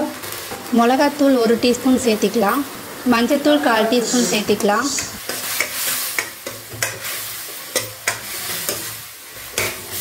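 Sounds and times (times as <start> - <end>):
food sizzling: 0.0 - 10.0.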